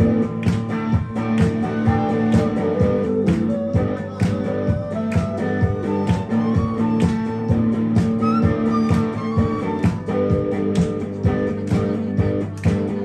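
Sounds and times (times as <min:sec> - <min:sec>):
flute melody: 0:00.0 - 0:11.4
guitar strumming: 0:00.0 - 0:13.0.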